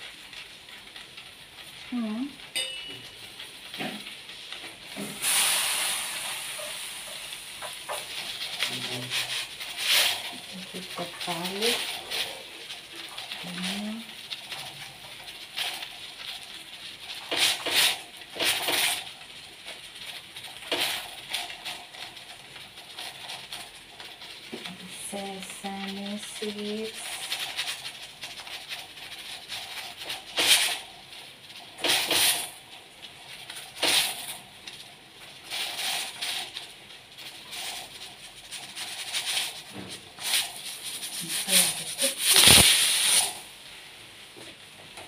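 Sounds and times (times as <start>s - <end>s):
steel utensils scraping and clattering: 2.5s - 43.5s.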